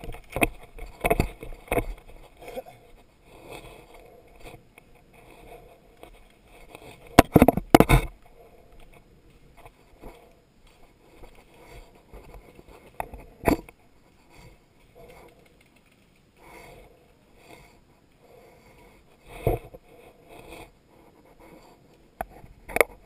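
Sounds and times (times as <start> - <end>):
weed stems rustling: 0.0 - 22.5.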